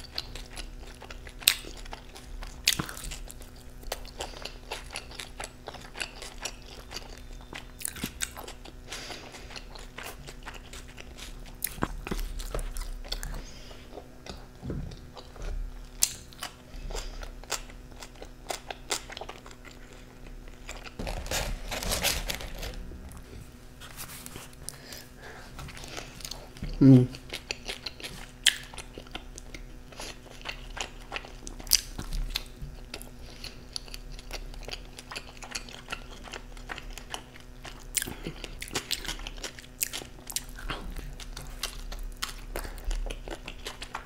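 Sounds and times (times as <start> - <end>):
person chewing crunchy pizza: 0.0 - 44.0.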